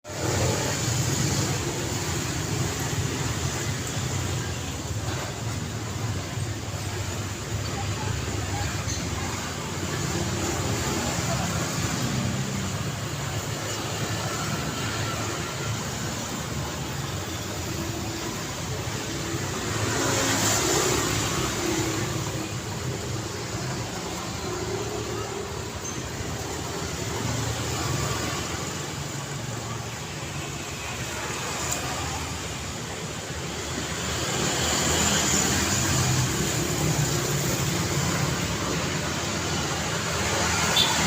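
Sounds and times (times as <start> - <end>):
cars driving past: 0.0 - 41.0.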